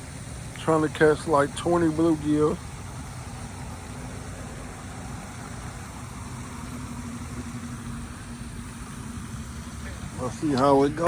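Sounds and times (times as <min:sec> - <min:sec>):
faint steady hum: 0:00.0 - 0:11.0
outdoor background rumble: 0:00.0 - 0:11.0.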